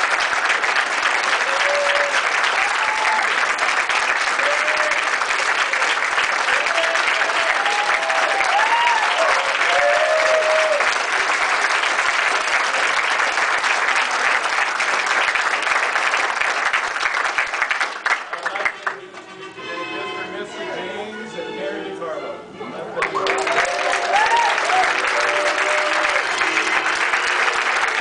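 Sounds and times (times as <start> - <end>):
crowd applauding: 0.0 - 19.3, 23.0 - 28.0.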